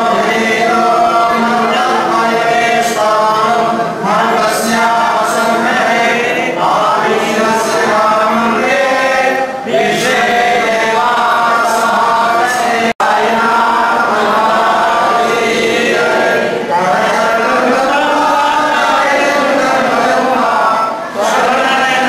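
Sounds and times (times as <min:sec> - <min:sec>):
group chanting a hymn: 0:00.0 - 0:22.0.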